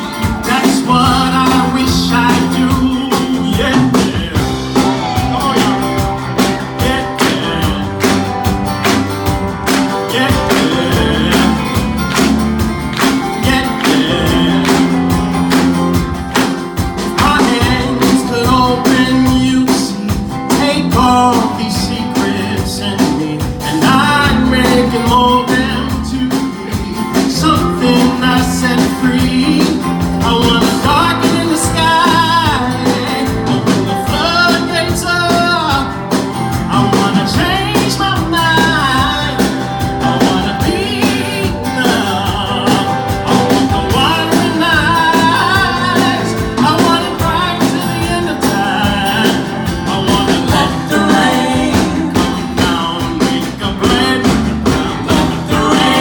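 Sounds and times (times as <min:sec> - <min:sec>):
live band playing: 0:00.0 - 0:56.0.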